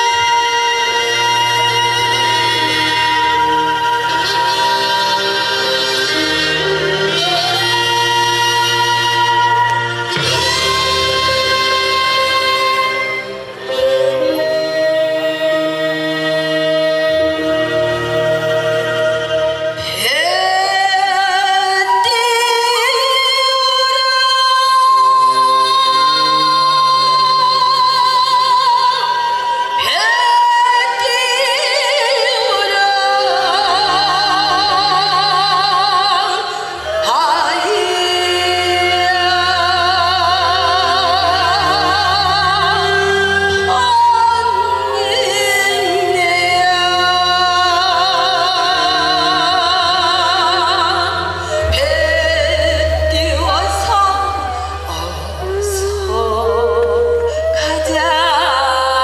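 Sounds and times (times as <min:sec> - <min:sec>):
woman singing with heavy vibrato: 0:00.0 - 0:59.0.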